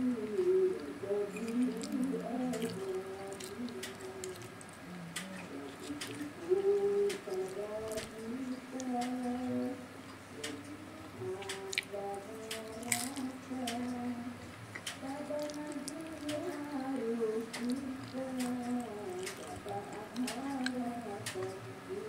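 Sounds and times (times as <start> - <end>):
person humming a slow tune: 0.0 - 22.0.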